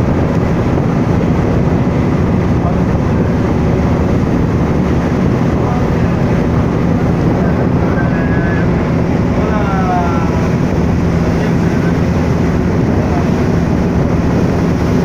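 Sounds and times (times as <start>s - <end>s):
boat engine running: 0.0s - 15.0s
wind and water rushing: 0.0s - 15.0s.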